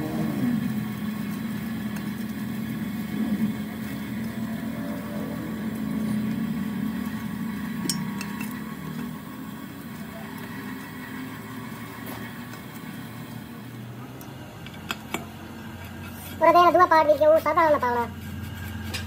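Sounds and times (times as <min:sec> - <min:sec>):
die grinder humming: 0:00.0 - 0:19.0.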